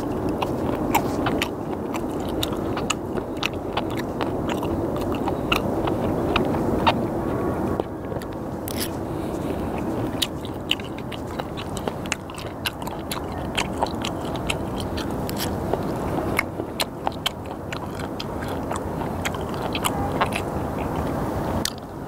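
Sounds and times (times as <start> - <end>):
close-up chewing: 0.0 - 22.0
mouth clicks and smacks: 0.0 - 22.0.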